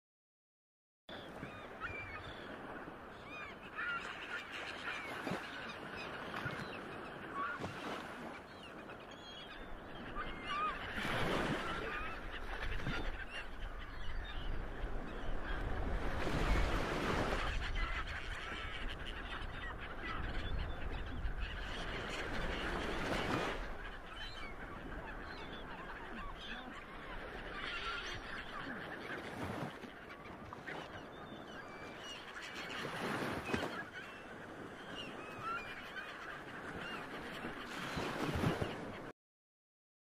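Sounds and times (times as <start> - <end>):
birds calling: 1.1 - 39.1.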